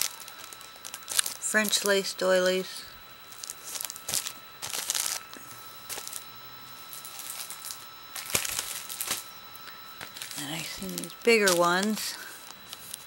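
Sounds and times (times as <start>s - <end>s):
plastic wrapping crinkling: 0.0s - 2.3s, 3.3s - 13.0s.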